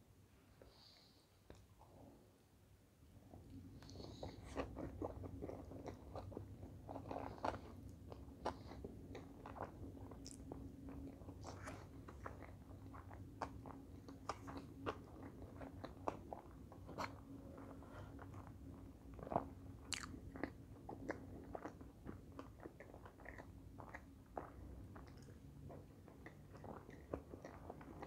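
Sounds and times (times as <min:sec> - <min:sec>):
faint low hum: 0:00.0 - 0:28.0
person chewing food: 0:03.3 - 0:28.0.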